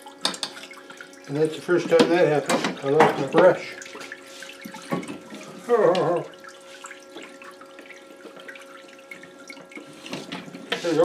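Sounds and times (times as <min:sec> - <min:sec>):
fluid trickling and splashing: 0:00.0 - 0:11.0
small pump humming: 0:00.0 - 0:11.0.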